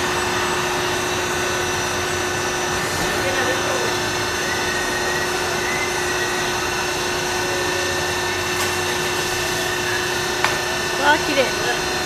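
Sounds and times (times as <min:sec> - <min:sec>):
car wash machinery drone: 0:00.0 - 0:12.0.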